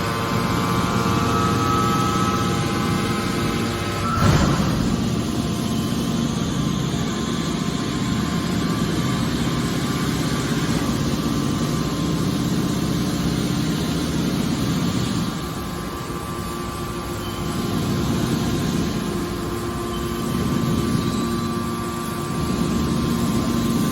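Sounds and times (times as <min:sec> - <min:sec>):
hydraulic power unit humming: 0:00.0 - 0:23.9.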